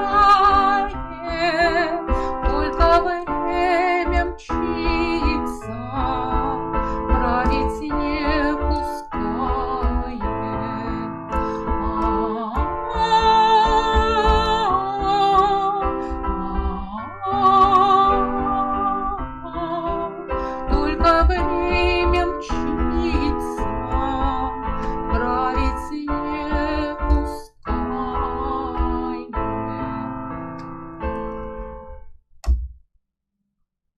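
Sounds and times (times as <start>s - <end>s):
woman singing with vibrato: 0.0s - 30.3s
piano accompaniment: 0.0s - 32.7s.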